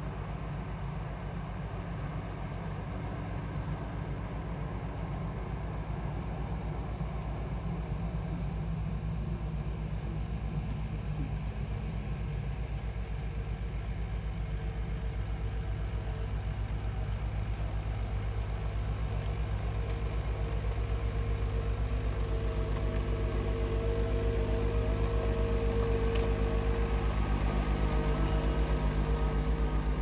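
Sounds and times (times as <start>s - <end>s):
faint steady whine: 0.0s - 30.0s
diesel engine running: 4.4s - 30.0s.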